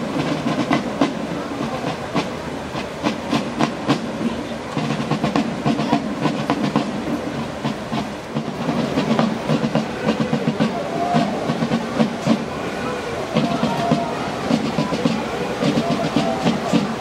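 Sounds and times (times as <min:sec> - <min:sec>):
crowd murmur: 0:00.0 - 0:17.0.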